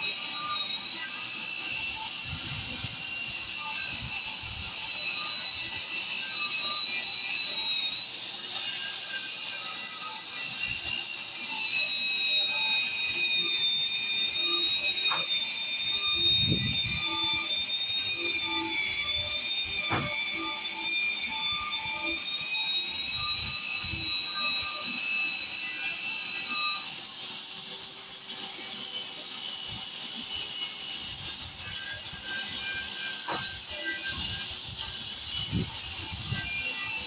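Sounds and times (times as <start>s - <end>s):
angle grinder wire brush whine: 0.0s - 37.0s.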